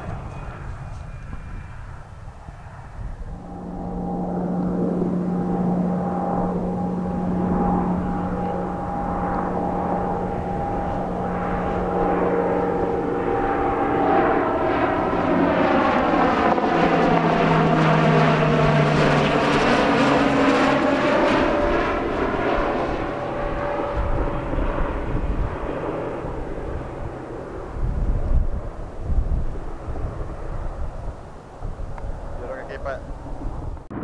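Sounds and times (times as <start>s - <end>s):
turboprop aircraft droning past: 0.0s - 34.0s.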